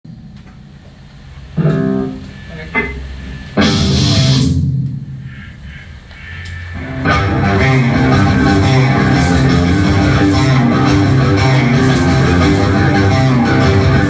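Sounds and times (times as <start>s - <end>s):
metal band playing: 1.5s - 14.0s.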